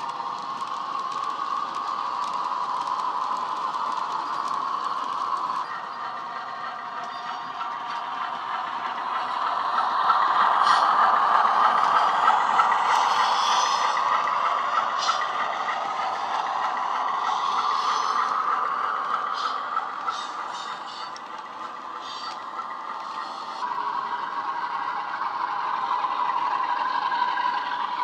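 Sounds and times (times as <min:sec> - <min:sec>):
model wagons clicking and rattling: 0:00.0 - 0:23.9
model locomotive diesel engine sound: 0:00.0 - 0:28.0.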